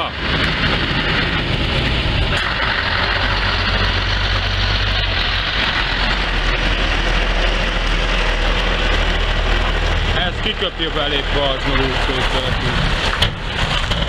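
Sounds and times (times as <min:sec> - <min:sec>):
diesel truck engine passing: 0:00.0 - 0:14.0
tyre and road noise: 0:00.0 - 0:14.0.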